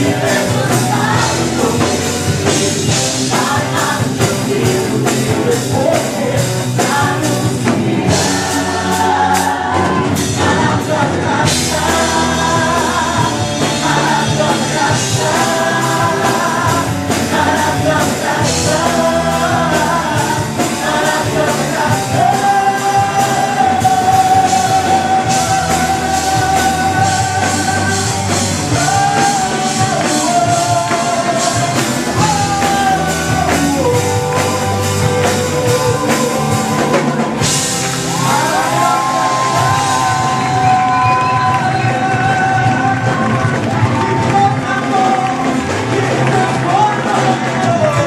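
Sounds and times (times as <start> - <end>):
bass: 0.0 - 48.0
drums: 0.0 - 48.0
voices singing long notes: 0.0 - 48.0.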